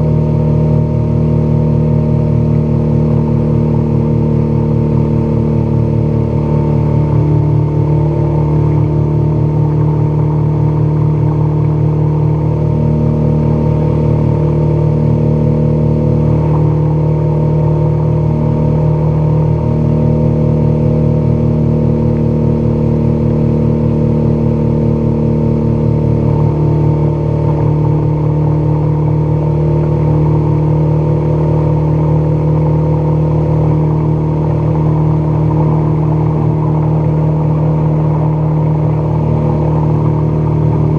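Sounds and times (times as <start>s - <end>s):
outboard motor running at high speed: 0.0s - 40.9s
water rushing past hull: 7.2s - 40.9s.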